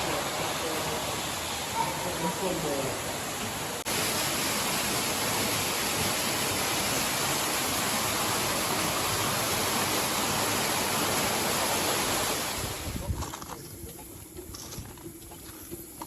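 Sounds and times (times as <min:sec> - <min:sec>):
steady loud hiss: 0:00.0 - 0:13.7.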